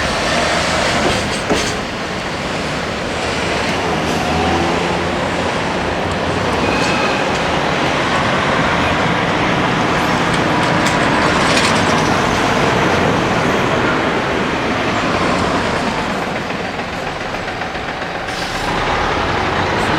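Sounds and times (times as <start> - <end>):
train wheels rumbling on rail: 0.0 - 19.9.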